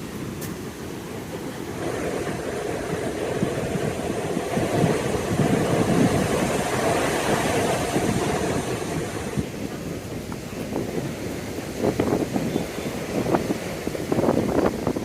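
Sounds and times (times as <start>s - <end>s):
surf breaking on beach: 0.0s - 15.0s
wind on microphone: 0.0s - 15.0s.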